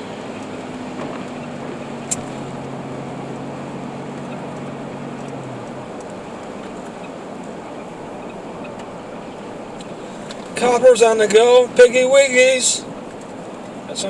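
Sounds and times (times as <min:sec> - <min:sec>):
engine hum: 0:00.0 - 0:14.0
road and engine noise: 0:00.0 - 0:14.0.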